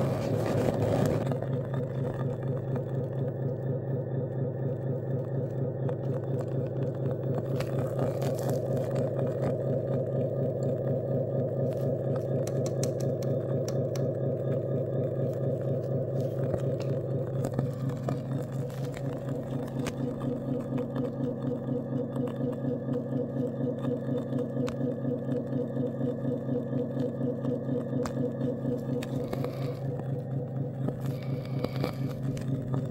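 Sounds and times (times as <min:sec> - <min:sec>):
simulated diesel engine idling: 0:00.0 - 0:32.9.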